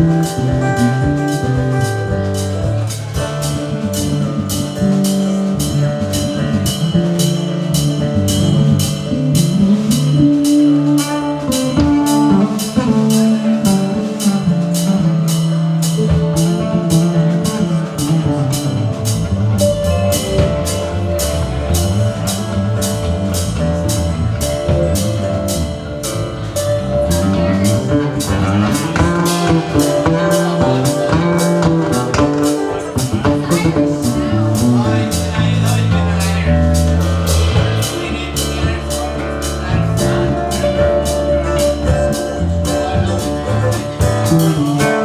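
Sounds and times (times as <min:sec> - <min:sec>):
drum kit beat: 0:00.0 - 0:45.0
guitar playing: 0:00.0 - 0:45.0.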